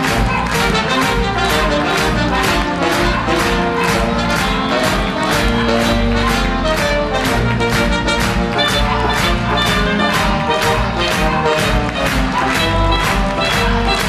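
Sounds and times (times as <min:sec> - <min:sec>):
upbeat brass band music: 0:00.0 - 0:14.0.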